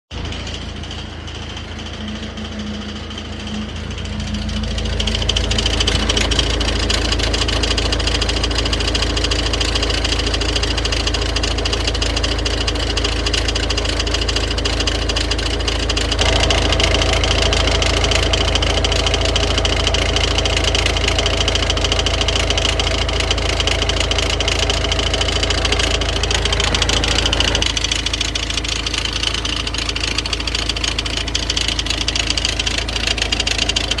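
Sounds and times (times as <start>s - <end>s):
car engine running loudly: 0.1s - 34.0s
fast rattle from crankshaft pulley: 0.1s - 34.0s.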